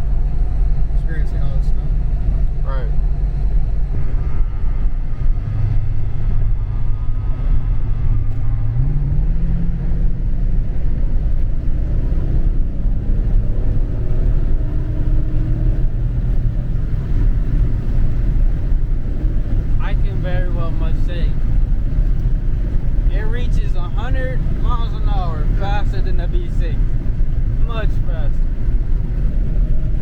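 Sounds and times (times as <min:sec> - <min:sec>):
car engine droning: 0:00.0 - 0:30.0
road rumble: 0:00.0 - 0:30.0.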